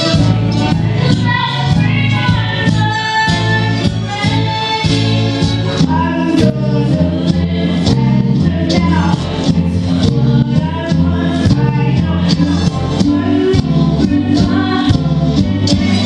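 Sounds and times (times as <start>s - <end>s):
music with steady beat and bass: 0.0s - 16.0s
girl singing into microphone: 0.6s - 16.0s.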